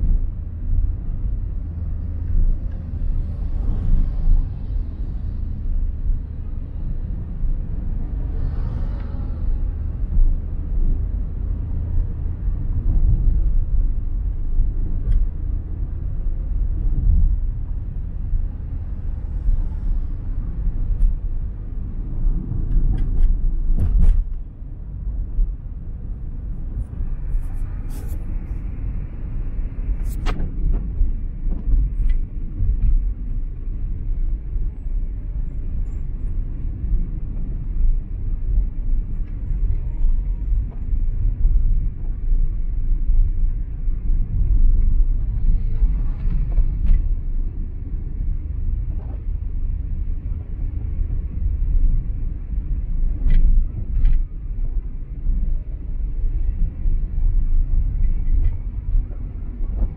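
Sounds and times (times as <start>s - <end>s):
car driving rumble: 0.0s - 59.9s.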